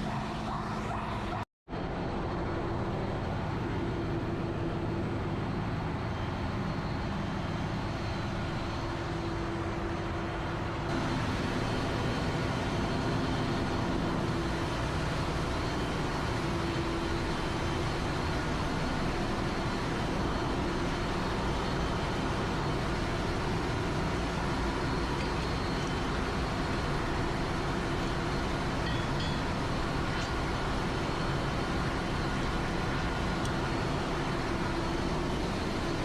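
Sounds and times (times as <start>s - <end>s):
diesel engine room drone: 0.0s - 36.0s.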